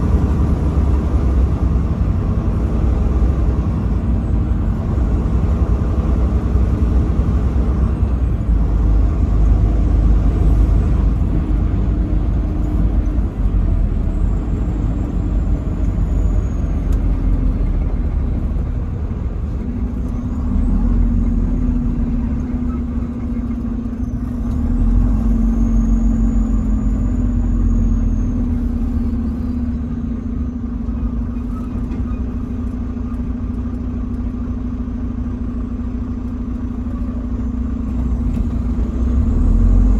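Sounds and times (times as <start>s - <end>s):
steady engine hum: 0.0s - 39.9s
truck driving on highway: 0.0s - 39.9s.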